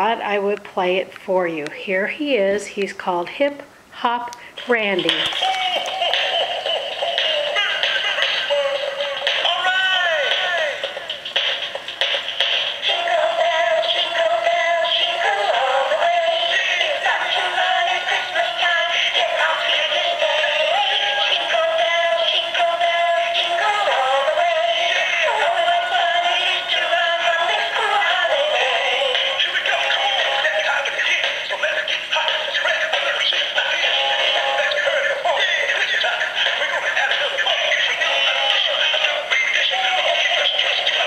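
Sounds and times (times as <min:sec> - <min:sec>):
toy bear singing song: 0:05.0 - 0:11.3, 0:12.2 - 0:41.0.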